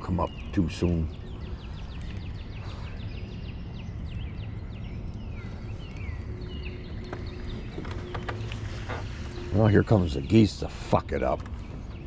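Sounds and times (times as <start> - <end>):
birds chirping and calling: 0.0 - 12.0
steady low rumble: 0.0 - 12.0.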